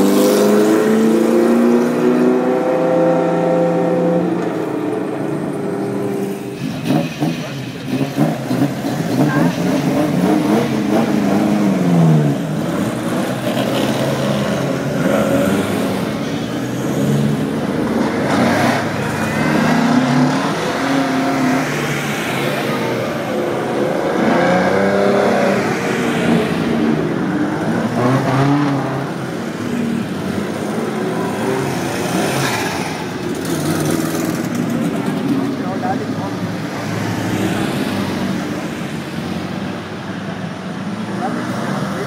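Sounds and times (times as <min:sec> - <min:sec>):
racing car engines revving: 0:00.0 - 0:42.0.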